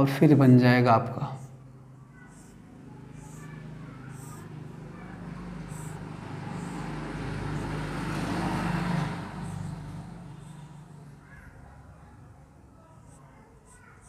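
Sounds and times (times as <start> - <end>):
motor vehicle passing by: 1.2 - 14.0.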